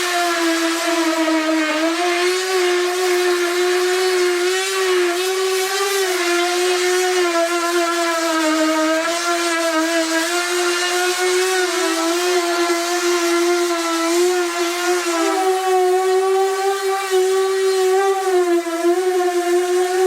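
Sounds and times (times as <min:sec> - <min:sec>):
small motor whining: 0:00.0 - 0:20.0.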